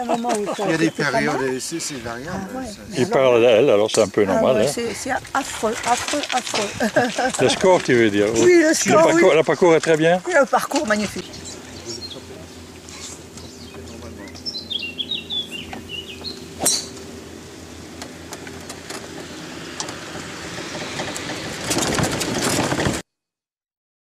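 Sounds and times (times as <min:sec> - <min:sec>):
birds chirping: 0:00.0 - 0:21.7
low mechanical hum: 0:00.0 - 0:23.0.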